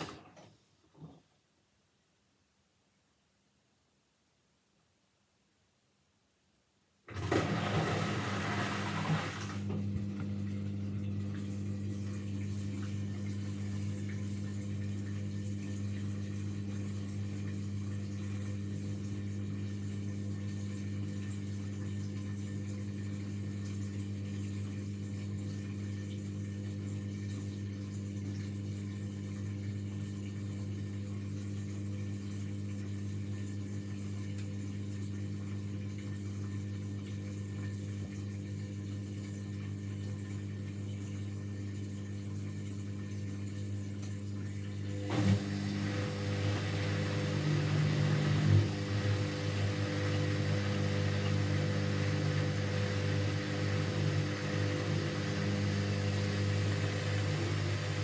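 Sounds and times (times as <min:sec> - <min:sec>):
drain pump humming: 0:07.1 - 0:58.0.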